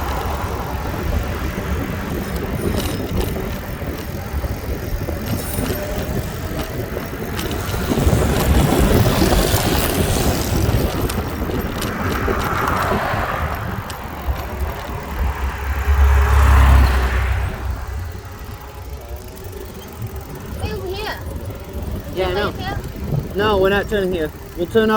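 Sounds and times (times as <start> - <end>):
passing traffic: 0.0 - 24.9
wind rumbling on microphone: 0.0 - 24.9.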